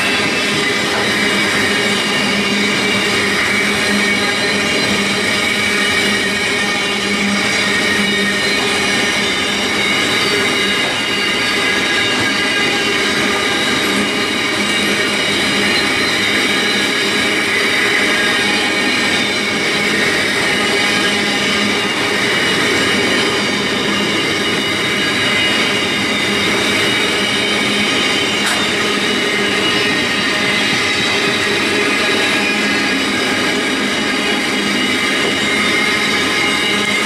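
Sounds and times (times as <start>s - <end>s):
high-pitched wheel squeal: 0.0s - 37.0s
train wheels on rails: 0.0s - 37.0s.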